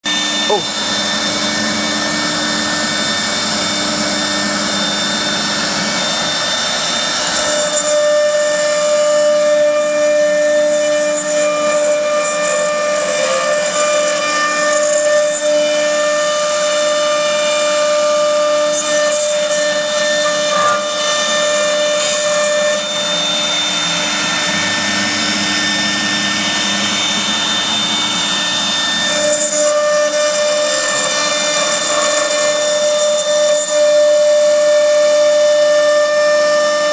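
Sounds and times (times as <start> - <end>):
router spindle whine: 0.0 - 36.9.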